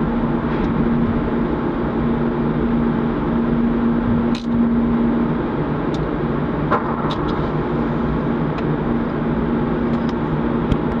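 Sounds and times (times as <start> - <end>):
ship machinery drone: 0.0 - 11.0.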